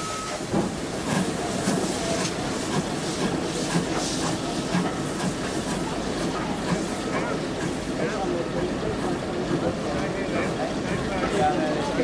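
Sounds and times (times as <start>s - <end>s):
steam locomotive hissing: 0.0s - 12.0s
train wheels running on rails: 0.0s - 12.0s.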